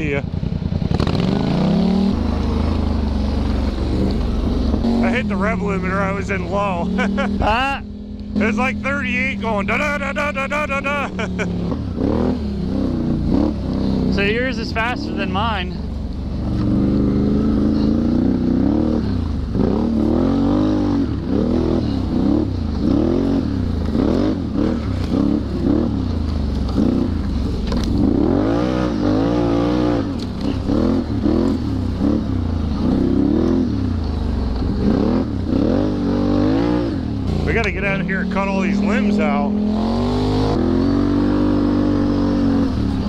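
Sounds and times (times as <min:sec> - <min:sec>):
atv engine revving: 0:00.0 - 0:43.0.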